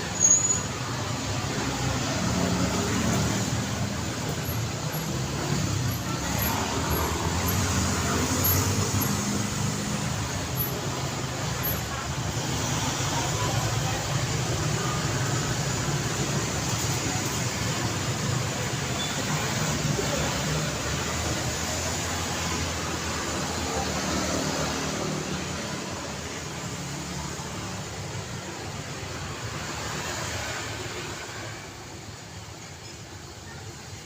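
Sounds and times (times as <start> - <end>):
cars and motorbikes passing: 0.0 - 34.0
faint voices: 0.0 - 34.0.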